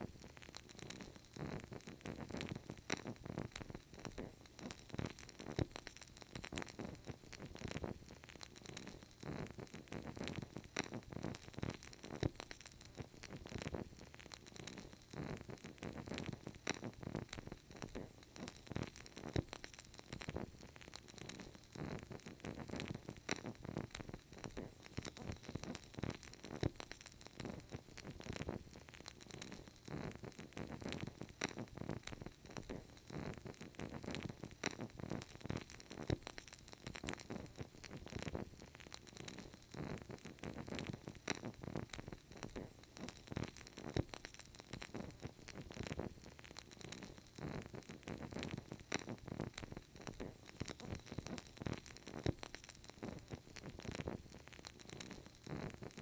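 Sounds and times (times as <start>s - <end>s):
candle crackling and popping: 0.0s - 56.0s.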